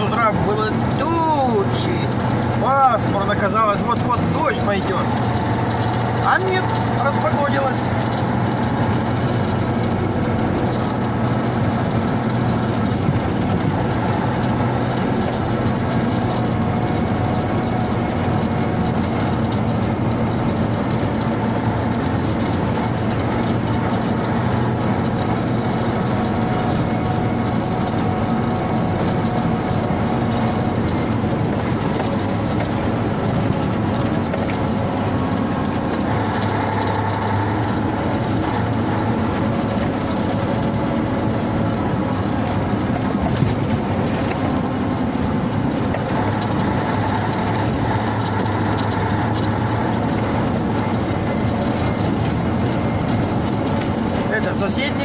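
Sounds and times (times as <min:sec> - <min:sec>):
tyres rumbling on dirt road: 0:00.0 - 0:55.0
vehicle engine hum: 0:00.0 - 0:55.0.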